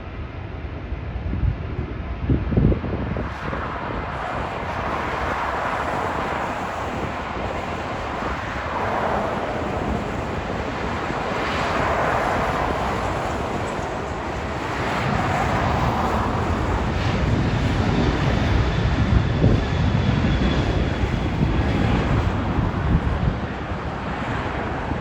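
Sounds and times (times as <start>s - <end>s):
jet airliner engines passing: 0.0s - 25.0s.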